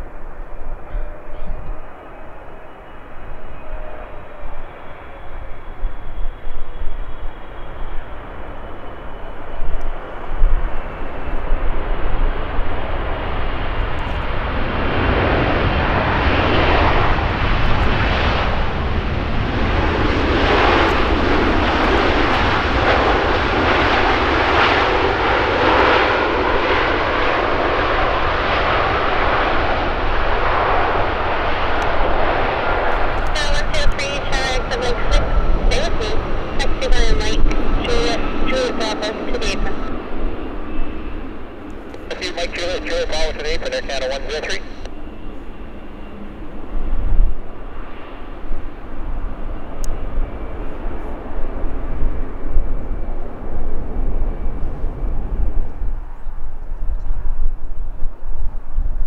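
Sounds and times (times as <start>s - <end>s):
jet engines roaring: 0.0s - 58.8s
low gusty rumble: 0.0s - 59.0s.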